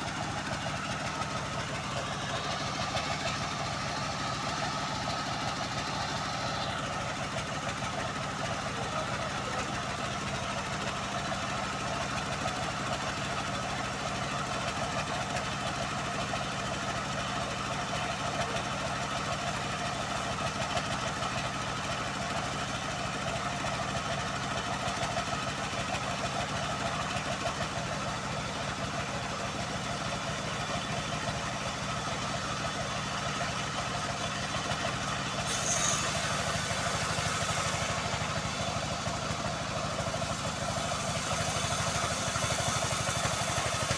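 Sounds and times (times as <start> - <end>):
band sawmill engine sawing wood: 0.0 - 43.9.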